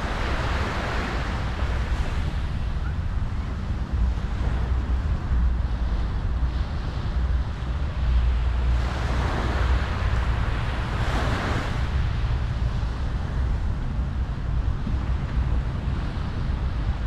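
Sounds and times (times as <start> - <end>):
ocean waves breaking: 0.0 - 17.0
wind rumble on microphone: 0.0 - 17.0.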